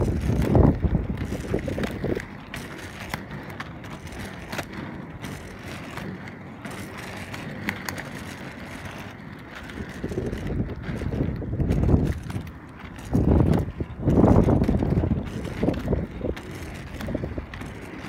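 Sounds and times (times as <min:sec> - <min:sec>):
skate wheels rolling on pavement: 0:00.0 - 0:18.0.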